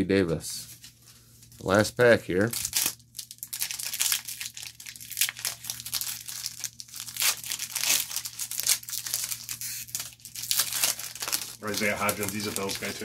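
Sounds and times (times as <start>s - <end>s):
foil wrapper tearing and crinkling: 2.4s - 13.0s.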